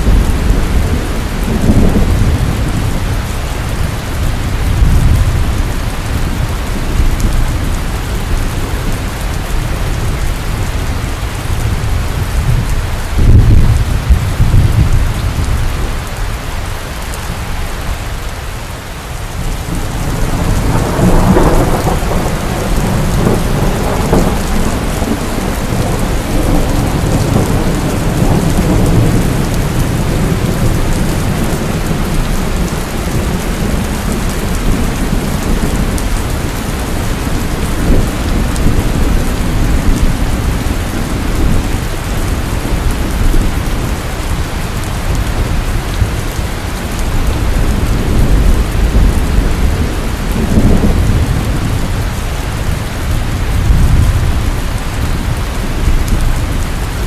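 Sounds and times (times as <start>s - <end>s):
thunder rumbling: 0.0s - 16.4s, 19.2s - 57.0s
heavy rain: 0.0s - 57.0s.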